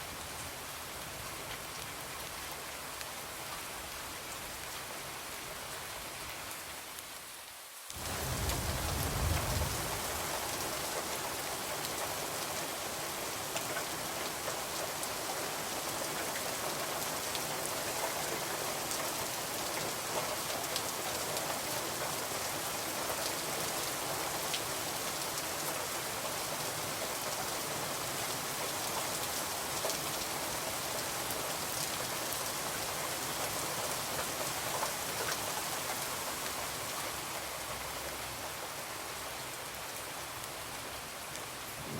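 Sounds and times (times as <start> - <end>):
rain on a window: 0.1 - 41.9.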